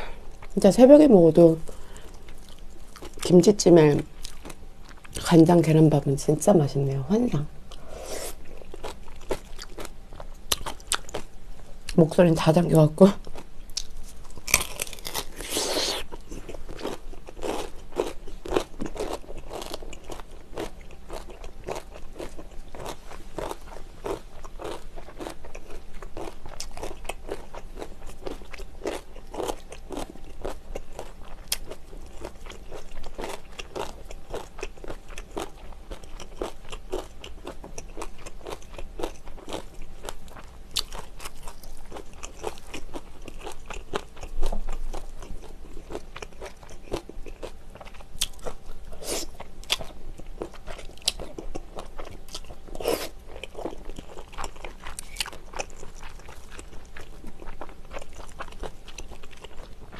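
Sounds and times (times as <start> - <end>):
crisp chewing crunches: 7.7 - 11.3, 13.2 - 59.9.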